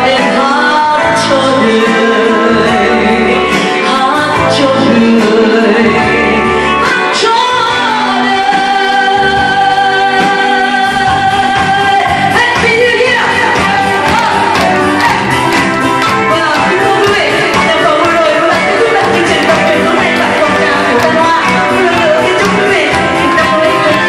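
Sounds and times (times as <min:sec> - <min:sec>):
loud music: 0:00.0 - 0:24.0
person singing: 0:00.0 - 0:24.0.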